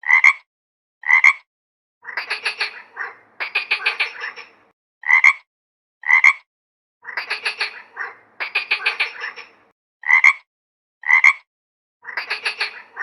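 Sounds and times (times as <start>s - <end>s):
frog croaking: 0.0s - 13.0s.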